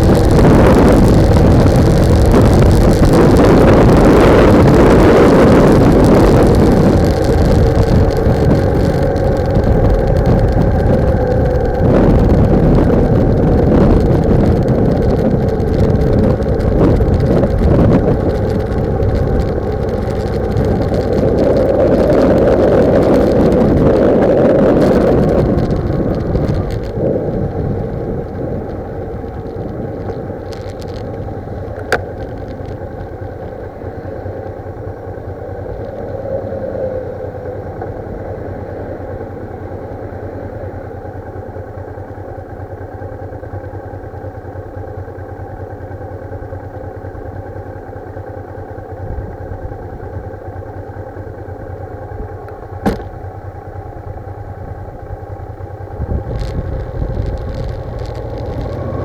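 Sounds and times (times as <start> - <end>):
wind buffeting microphone: 0.0 - 40.0, 51.6 - 59.0
motorcycle engine: 0.0 - 59.0
road noise: 0.0 - 59.0.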